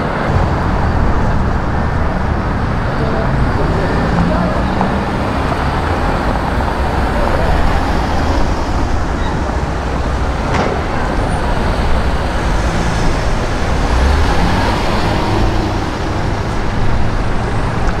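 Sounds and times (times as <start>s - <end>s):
car engines passing slowly: 0.0s - 18.0s.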